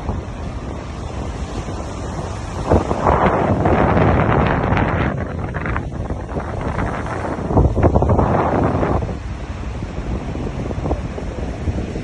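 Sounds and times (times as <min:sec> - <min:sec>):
storm wind buffeting microphone: 0:00.0 - 0:12.0
surf: 0:00.0 - 0:12.0.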